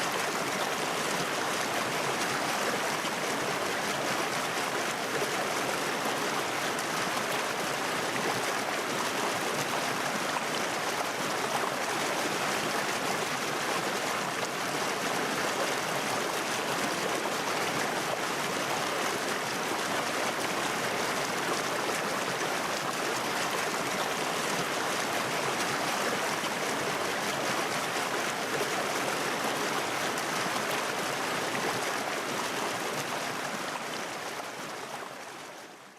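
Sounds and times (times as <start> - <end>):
water running in a stream: 0.0 - 35.9.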